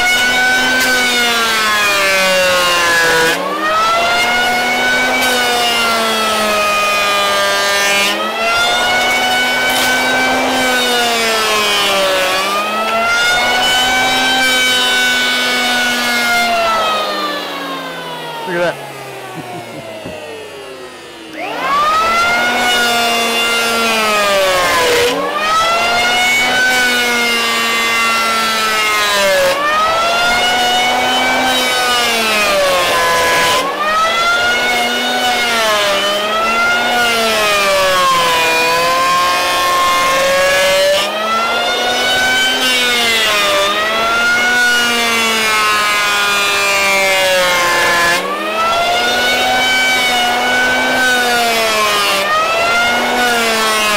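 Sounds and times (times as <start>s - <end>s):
electric hand plane planing wood: 0.0s - 53.9s.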